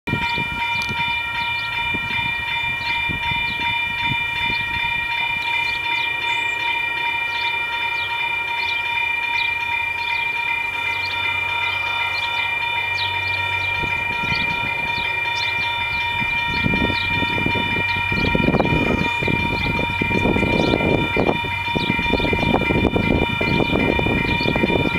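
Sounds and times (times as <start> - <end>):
level crossing warning bell: 0.1 - 24.9
low train rumble: 0.1 - 24.9.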